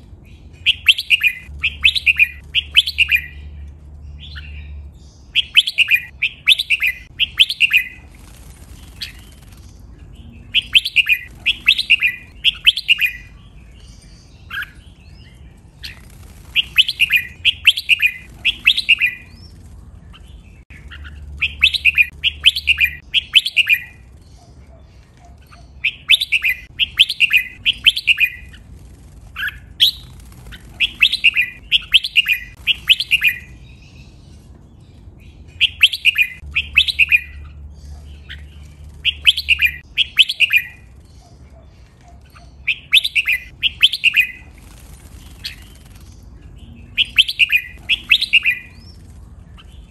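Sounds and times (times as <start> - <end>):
bird singing whistled notes: 0.6 - 9.4, 10.2 - 24.5, 25.2 - 28.6, 29.4 - 34.2, 35.4 - 41.4, 42.3 - 44.5, 46.6 - 49.9.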